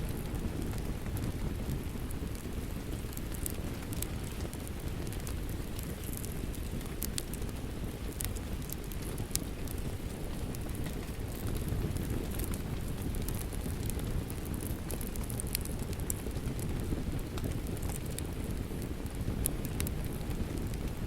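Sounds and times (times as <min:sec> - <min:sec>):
fireplace crackling and popping: 0:00.0 - 0:21.0.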